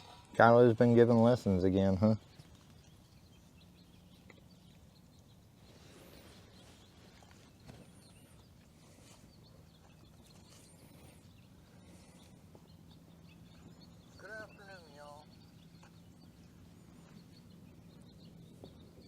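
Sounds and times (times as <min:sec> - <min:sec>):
bird chirps: 0:00.0 - 0:19.0
steady low hum: 0:00.0 - 0:19.0.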